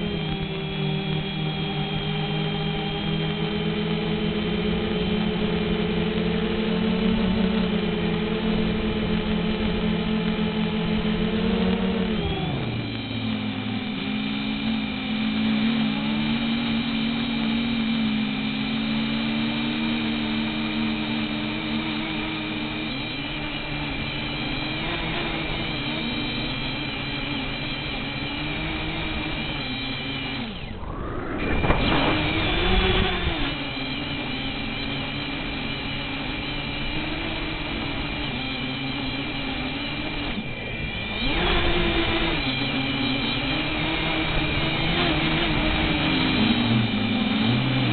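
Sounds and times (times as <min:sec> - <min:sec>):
drone propellers whirring: 0:00.0 - 0:47.9.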